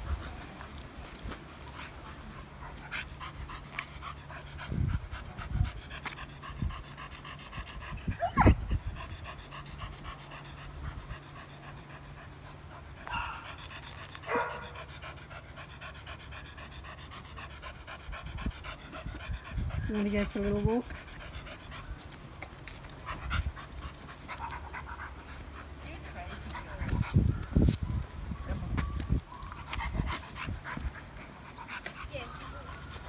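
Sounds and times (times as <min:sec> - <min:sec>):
dog panting: 0:00.0 - 0:27.5, 0:29.4 - 0:33.0.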